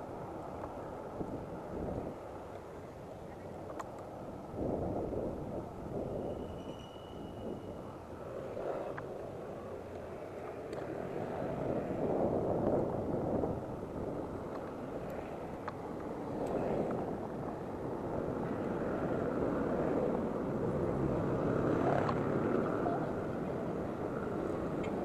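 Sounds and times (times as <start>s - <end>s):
scooter wheels rolling: 0.1s - 25.0s.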